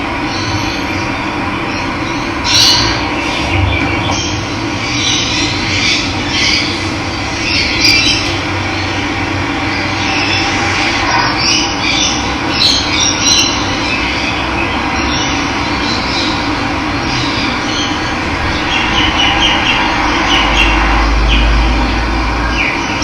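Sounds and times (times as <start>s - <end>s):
birds chirping: 0.2s - 23.0s.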